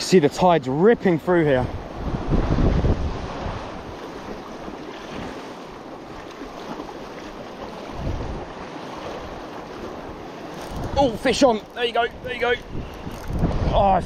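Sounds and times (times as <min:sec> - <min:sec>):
wind buffeting the microphone: 0:01.5 - 0:05.4, 0:06.0 - 0:14.0.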